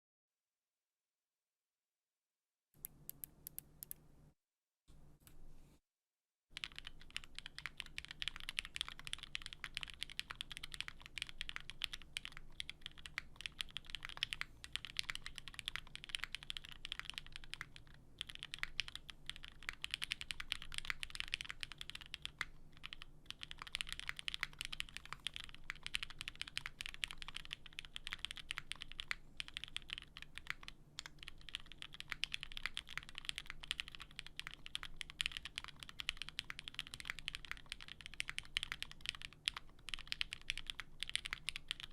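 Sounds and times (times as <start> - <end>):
mechanical keyboard typing: 6.5 - 41.9.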